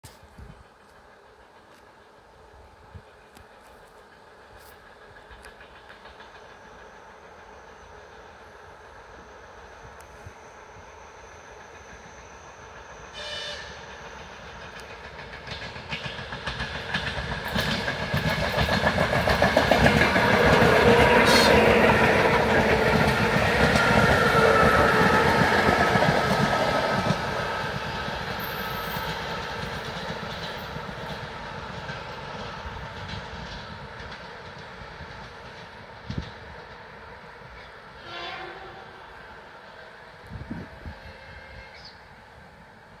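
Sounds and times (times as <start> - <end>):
train rumble: 0.1 - 43.0.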